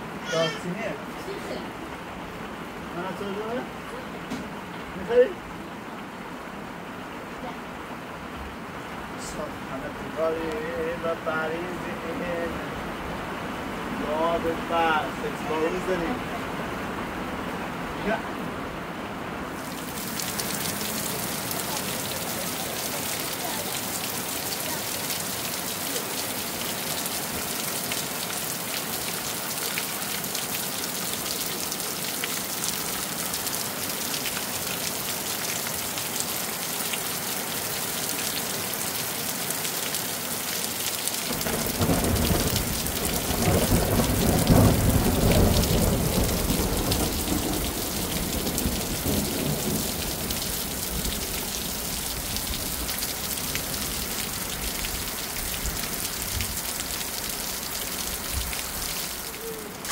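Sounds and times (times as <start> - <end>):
rain on concrete: 0.0 - 59.9.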